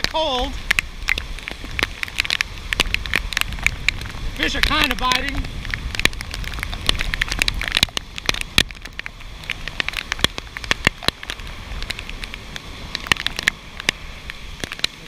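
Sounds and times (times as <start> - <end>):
low wind rumble: 0.0 - 15.0
raindrops tapping: 0.0 - 15.0.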